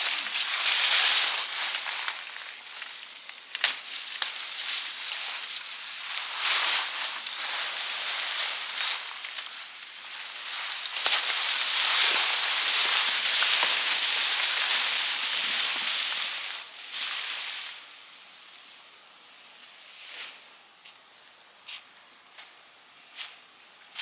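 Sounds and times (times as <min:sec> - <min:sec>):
vines and leaves rustling: 0:00.0 - 0:24.0.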